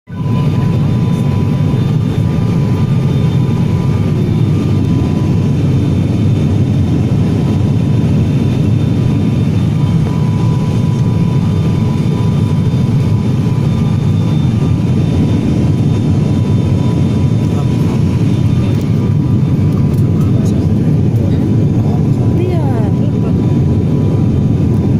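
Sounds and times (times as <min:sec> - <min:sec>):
airliner cabin engine roar: 0:00.1 - 0:24.9.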